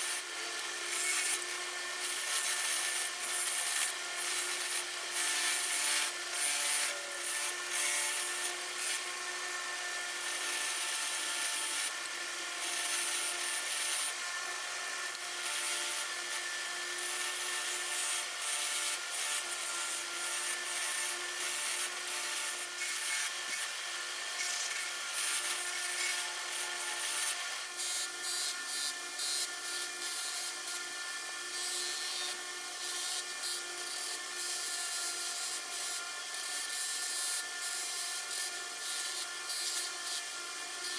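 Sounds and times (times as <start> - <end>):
small power tool humming: 0.0 - 40.9.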